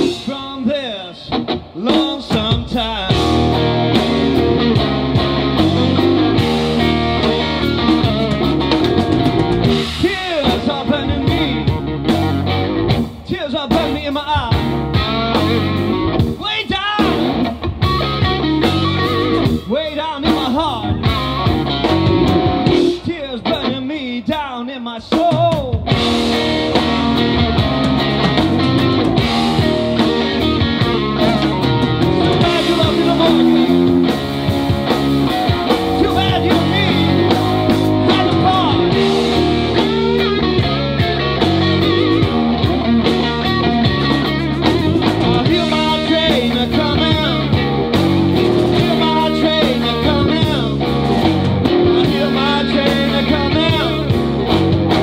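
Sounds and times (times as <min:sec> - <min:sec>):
drum kit: 0:00.0 - 0:23.9, 0:25.1 - 0:55.0
electric guitar lead lines: 0:00.0 - 0:24.8, 0:25.4 - 0:55.0
bass guitar: 0:00.0 - 0:55.0.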